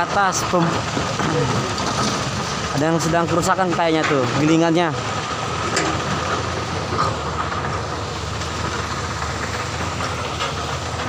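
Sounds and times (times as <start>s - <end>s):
excavator working: 0.0s - 11.0s
truck engines idling: 0.0s - 11.0s.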